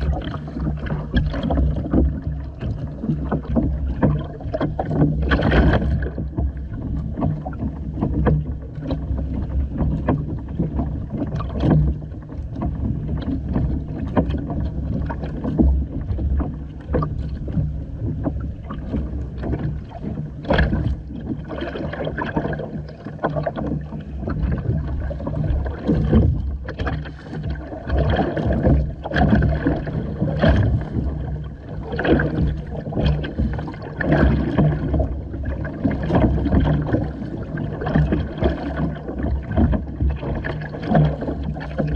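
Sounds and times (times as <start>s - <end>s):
water splashing against hull: 0.0s - 41.9s.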